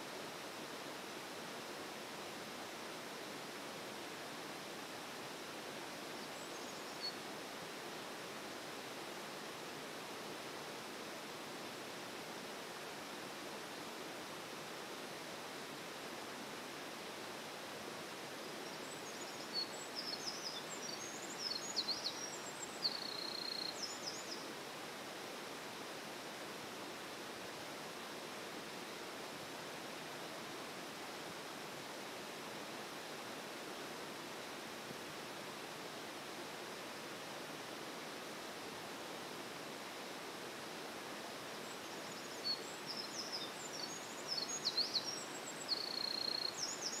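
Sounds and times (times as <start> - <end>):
stream rushing: 0.0 - 23.0, 23.8 - 45.9.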